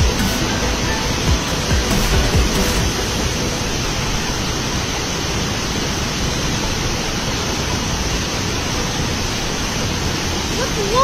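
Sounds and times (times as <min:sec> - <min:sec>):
water rushing at a spillway: 0:00.0 - 0:11.0.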